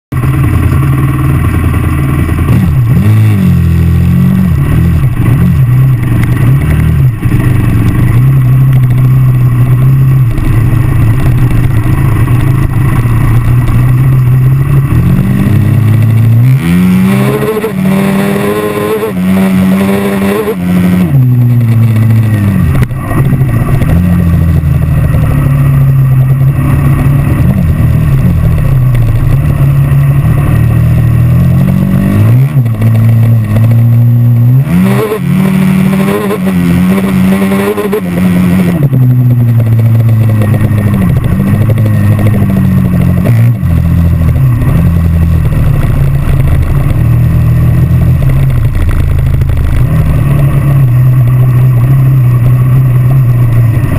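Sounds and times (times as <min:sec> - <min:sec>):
dirt bike engine revving: 0:00.2 - 0:53.9.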